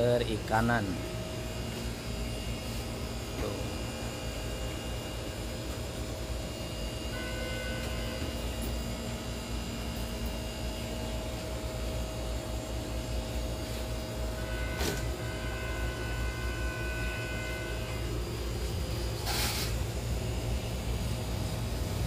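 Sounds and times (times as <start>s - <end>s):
aquarium air pump hum: 0.0s - 22.0s.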